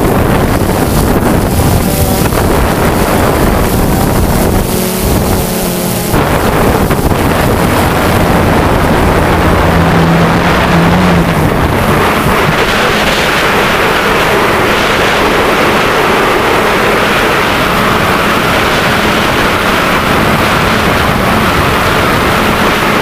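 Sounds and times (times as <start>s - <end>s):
drone motors humming: 0.0s - 23.0s
wind noise on microphone: 0.0s - 23.0s.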